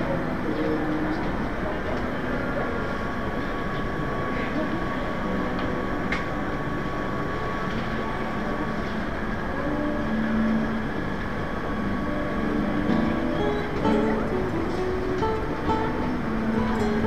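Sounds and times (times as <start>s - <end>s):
faint steady whine: 0.0s - 17.0s
street bustle: 0.0s - 17.0s.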